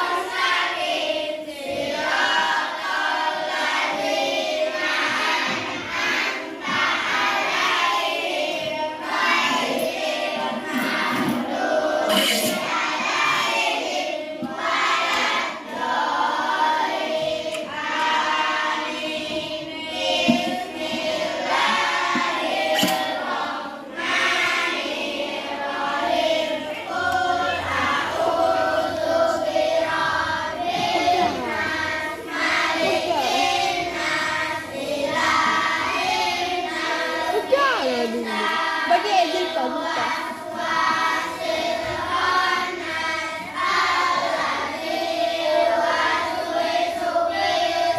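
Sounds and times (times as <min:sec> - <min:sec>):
children chanting in unison: 0:00.0 - 0:47.9.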